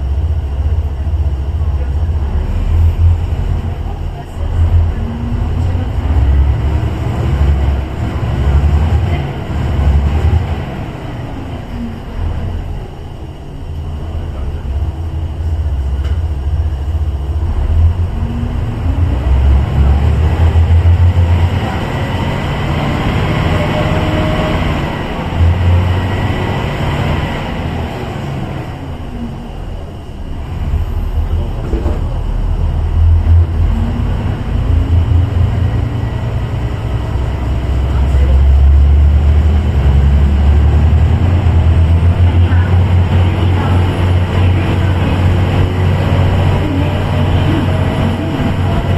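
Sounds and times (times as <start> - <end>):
diesel railcar engine rumbling: 0.0 - 48.9
engine whine: 0.0 - 48.9.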